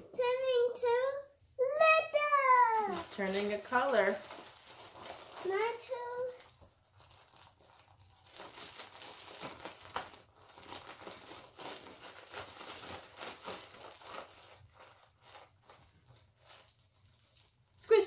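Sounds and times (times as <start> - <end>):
plastic bag crinkling: 2.6 - 18.0.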